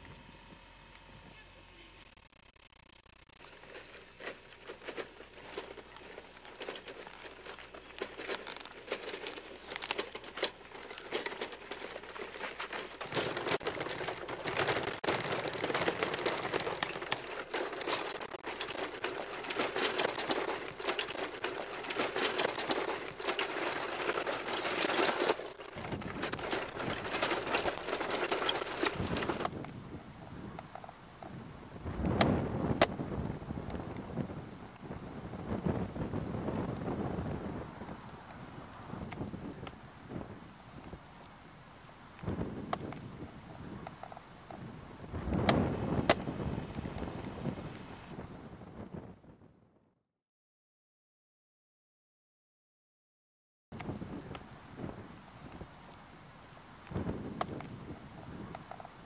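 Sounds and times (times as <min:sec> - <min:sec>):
dense crackling noise: 0:00.0 - 0:49.4, 0:53.7 - 0:59.0.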